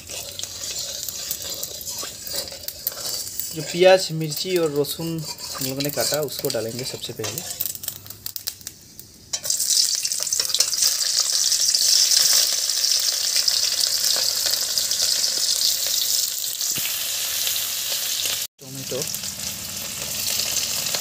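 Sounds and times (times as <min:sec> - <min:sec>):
loud sizzle of frying: 0:00.0 - 0:21.0.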